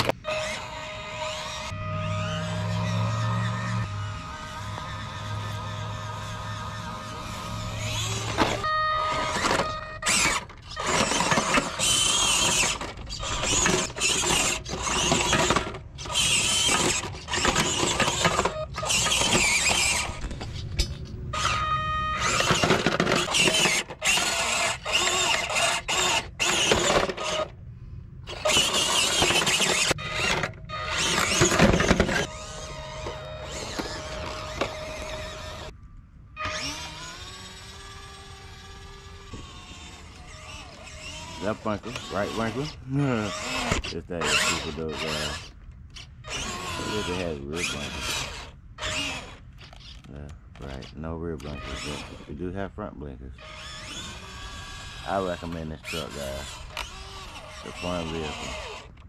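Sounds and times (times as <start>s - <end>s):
electric motor and gears whirring: 0.0s - 59.0s.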